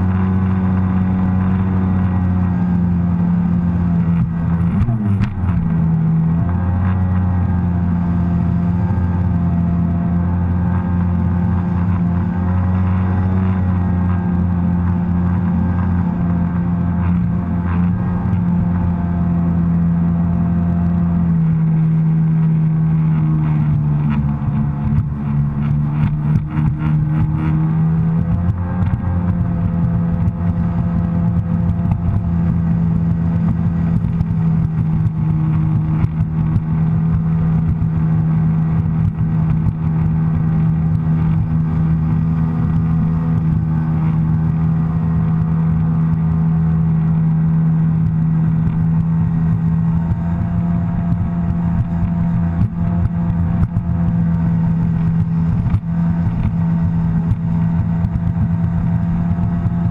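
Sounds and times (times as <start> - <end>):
personal watercraft engine drone: 0.0 - 59.9.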